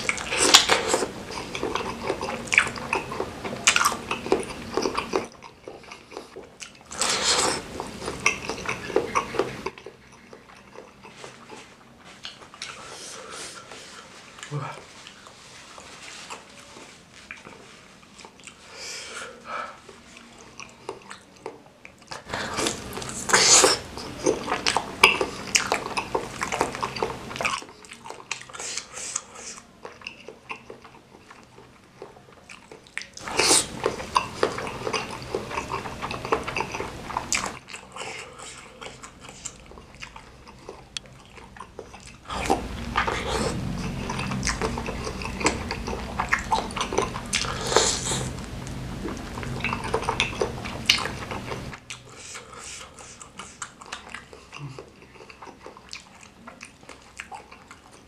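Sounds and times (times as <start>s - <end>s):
wet chewing mouth sounds: 0.0s - 58.0s.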